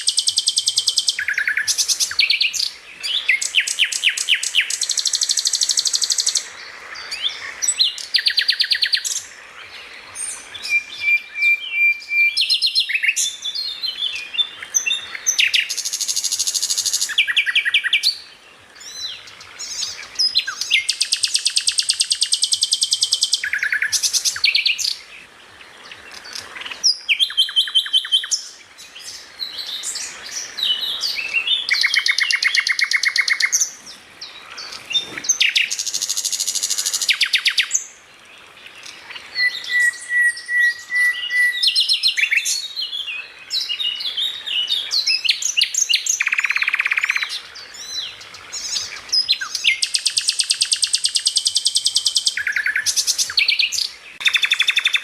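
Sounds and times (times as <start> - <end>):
songbird singing trills and chirps: 0.0 - 55.0.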